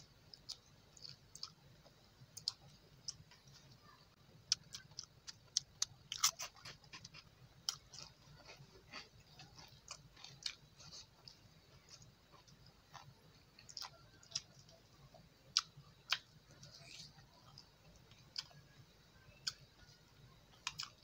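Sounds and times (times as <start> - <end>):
person chewing: 0.3 - 3.9, 4.5 - 21.0.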